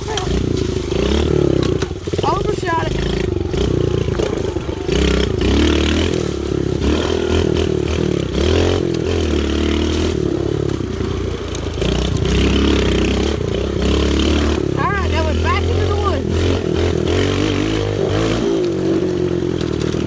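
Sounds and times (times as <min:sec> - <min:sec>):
pit bike engine revving: 0:00.0 - 0:20.0.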